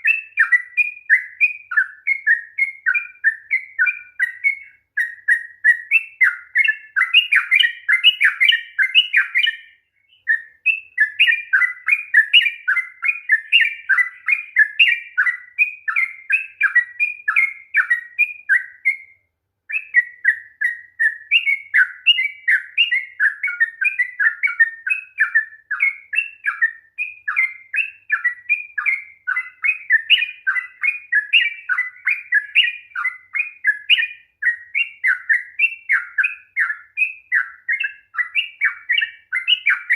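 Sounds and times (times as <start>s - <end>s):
bulbul singing chirping phrases: 0.0s - 39.9s.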